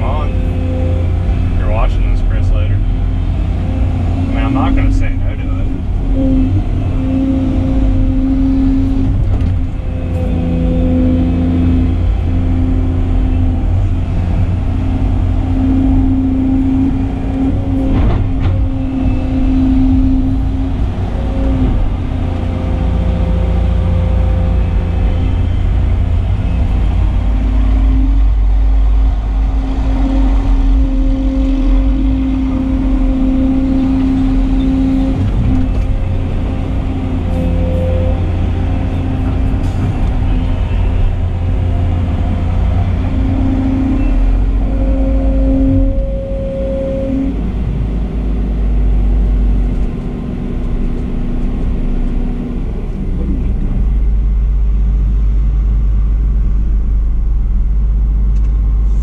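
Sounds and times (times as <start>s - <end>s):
excavator diesel engine drone: 0.0s - 59.0s
hydraulic whine: 0.0s - 59.0s.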